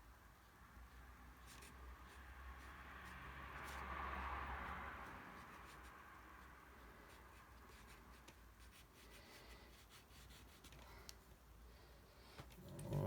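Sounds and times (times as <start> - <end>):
paintbrush strokes on paper: 0.4 - 10.8.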